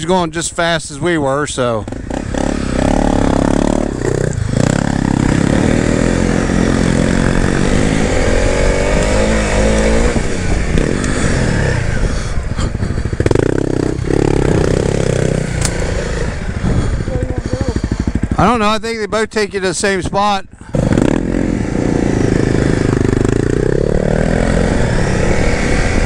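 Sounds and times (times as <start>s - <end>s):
motorcycle engine on dirt trail: 0.0s - 26.0s.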